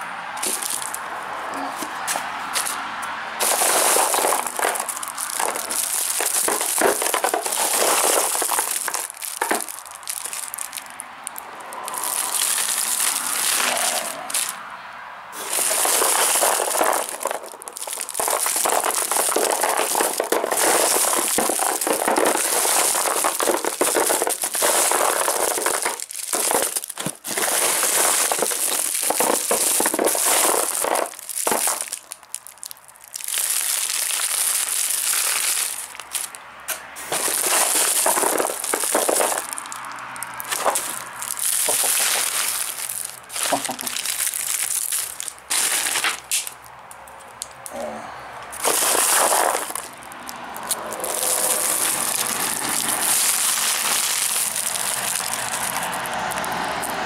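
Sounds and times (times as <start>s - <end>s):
candy wrappers crinkling: 0.4s - 1.1s, 3.4s - 14.6s, 15.4s - 36.4s, 37.0s - 47.8s, 48.5s - 57.0s.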